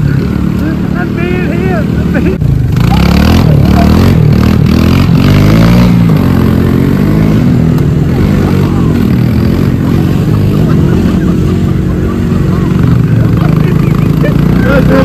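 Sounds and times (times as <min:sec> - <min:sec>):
atv engines running: 0:00.0 - 0:15.0.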